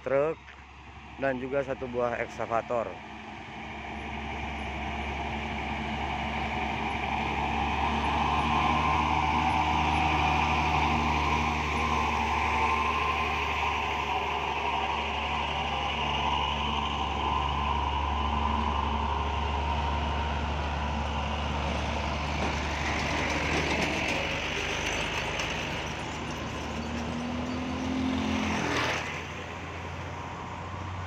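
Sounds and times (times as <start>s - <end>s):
heavy truck engines running: 0.0s - 31.0s.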